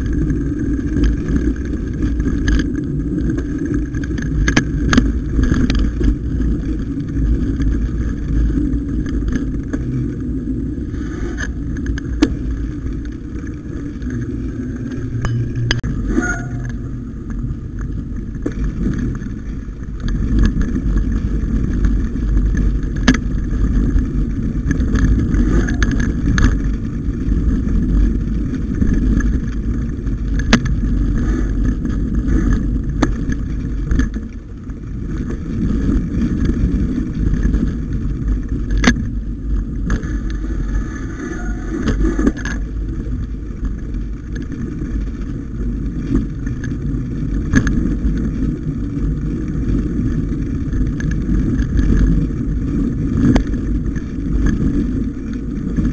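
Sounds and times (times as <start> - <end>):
bike tyres on trail: 0.0 - 55.9
wind on microphone: 0.0 - 55.9.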